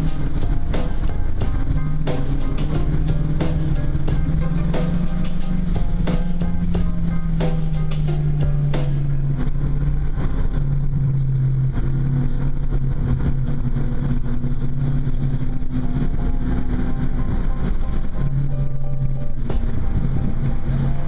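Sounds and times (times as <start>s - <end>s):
car engine under load: 0.0s - 21.0s
road noise: 0.0s - 21.0s.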